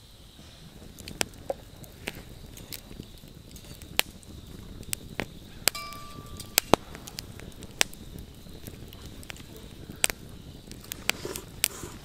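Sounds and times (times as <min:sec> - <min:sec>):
campfire crackling: 0:00.0 - 0:12.0
sharp pops from fire: 0:00.0 - 0:12.0.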